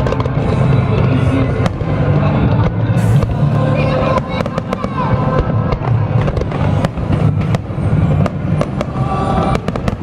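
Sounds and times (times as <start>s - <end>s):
deep rumble of bursts: 0.0s - 10.0s
fireworks cracks and bangs: 0.0s - 10.0s.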